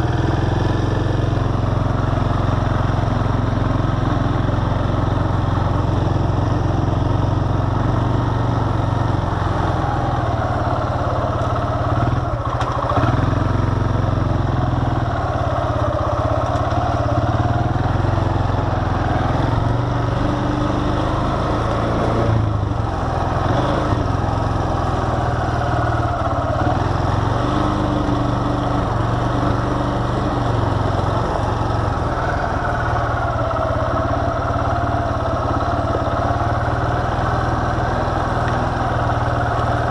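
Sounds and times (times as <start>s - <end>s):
atv engine droning: 0.0s - 39.9s.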